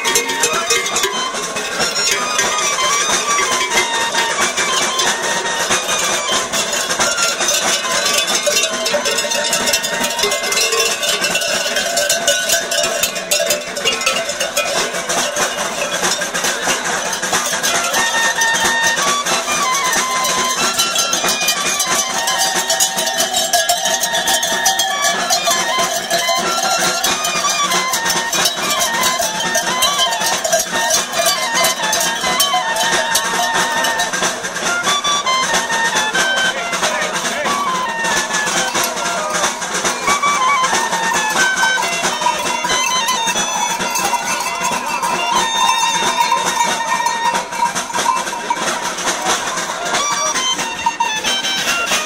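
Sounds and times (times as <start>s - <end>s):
cowbells clanking: 0.0s - 52.0s.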